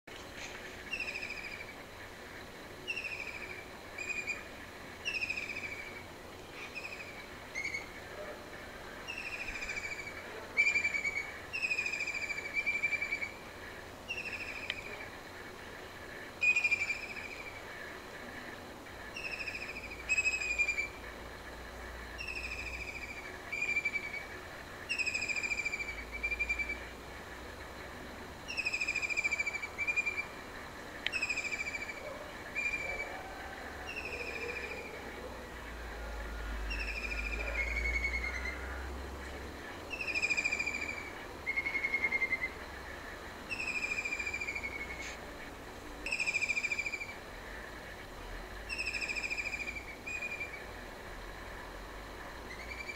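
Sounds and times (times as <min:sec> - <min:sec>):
faint background noise: 0:00.0 - 0:52.9.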